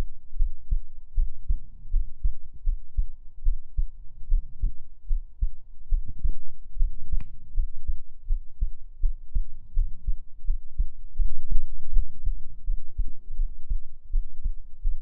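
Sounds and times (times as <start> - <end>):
heartbeat double thumps: 0.0 - 15.0.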